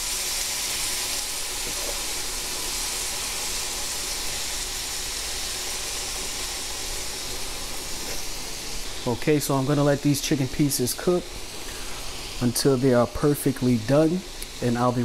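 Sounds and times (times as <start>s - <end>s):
chicken sizzling on a griddle: 0.0s - 15.0s.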